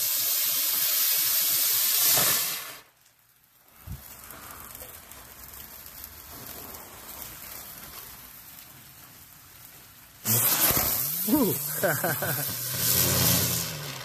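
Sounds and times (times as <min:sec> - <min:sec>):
firework hissing: 0:00.0 - 0:14.0
rain falling on a patio: 0:00.0 - 0:14.0.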